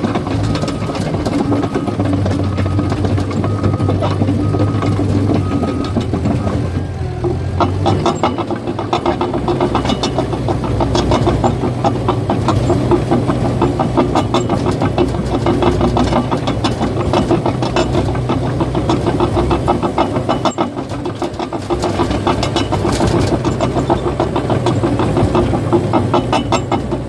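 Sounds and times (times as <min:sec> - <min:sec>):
bulldozer diesel engine running: 0:00.0 - 0:27.0
steel tracks clanking: 0:00.0 - 0:27.0.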